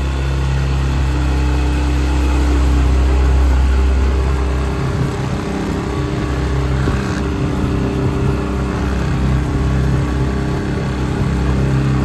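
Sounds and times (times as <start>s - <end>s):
outboard motor droning: 0.0s - 12.0s
water noise: 0.0s - 12.0s
wind noise: 0.0s - 12.0s.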